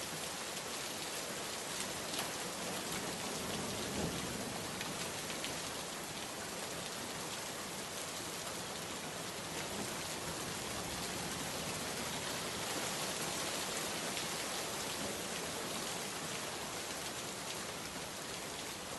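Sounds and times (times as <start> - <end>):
rain hiss: 0.0 - 18.9.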